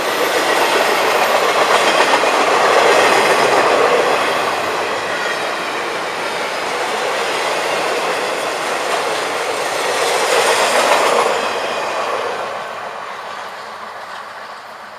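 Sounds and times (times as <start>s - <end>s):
freight train rolling past: 0.0s - 14.9s.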